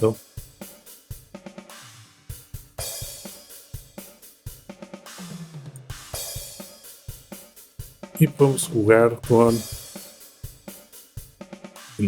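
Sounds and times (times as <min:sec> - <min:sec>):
steady hi-hat: 0:00.0 - 0:12.0.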